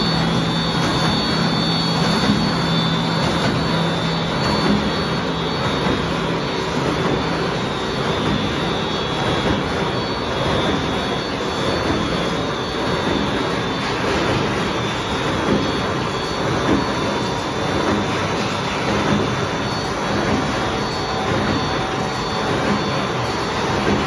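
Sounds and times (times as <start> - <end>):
faint high steady tones: 0.0 - 24.0
machine line mechanical din: 0.0 - 24.0.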